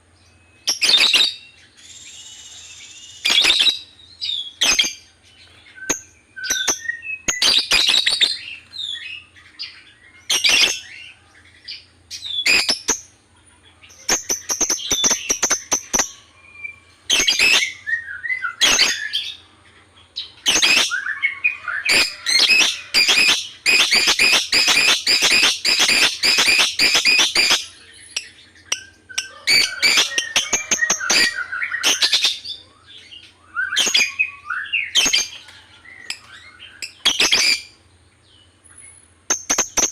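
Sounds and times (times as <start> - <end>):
lovebird chirping and squawking: 0.6 - 11.1, 11.7 - 13.1, 13.8 - 19.4, 20.2 - 37.8, 38.7 - 39.9.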